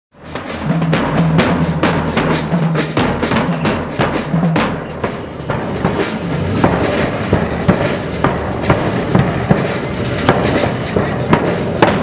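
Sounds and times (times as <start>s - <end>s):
snare drum strikes: 0.2s - 12.0s.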